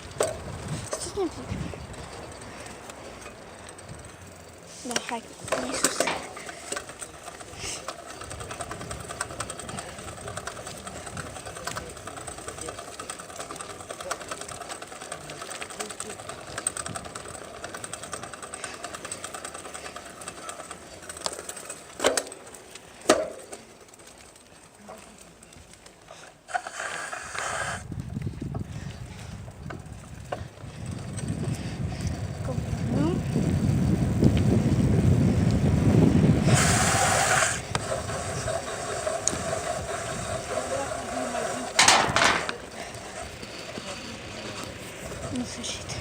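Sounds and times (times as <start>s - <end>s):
bicycle freewheel ticking: 0.0s - 46.0s.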